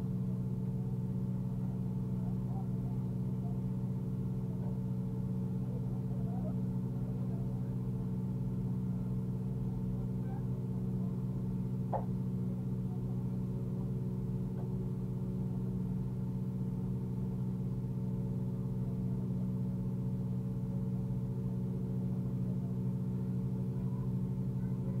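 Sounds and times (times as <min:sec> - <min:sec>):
car engine running steadily: 0:00.0 - 0:25.0.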